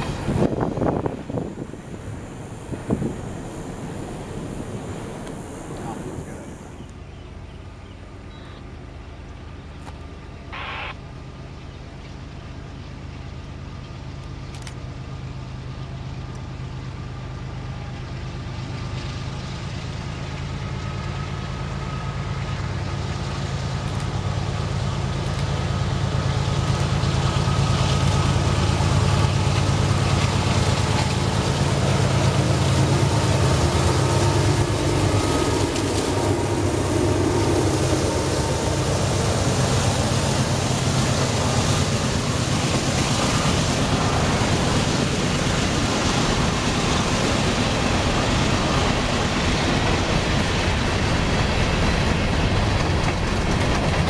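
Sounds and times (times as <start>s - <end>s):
diesel locomotive engine rumble: 0.0s - 54.0s
hopper cars rolling past: 0.0s - 54.0s.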